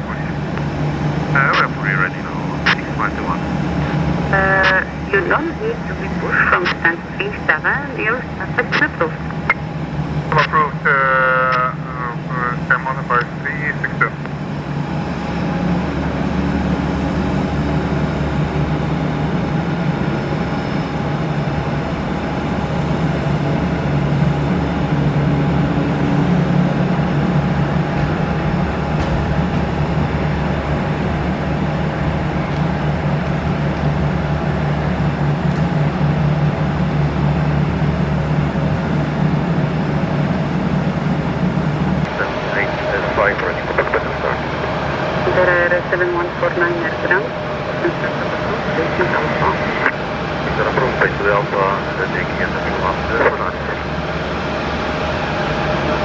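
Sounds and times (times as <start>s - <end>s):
aircraft engines rumbling: 0.0s - 56.0s.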